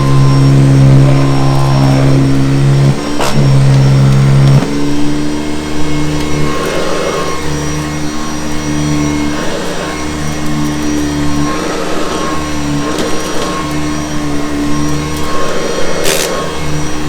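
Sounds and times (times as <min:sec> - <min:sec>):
vacuum cleaner droning: 0:00.0 - 0:17.0.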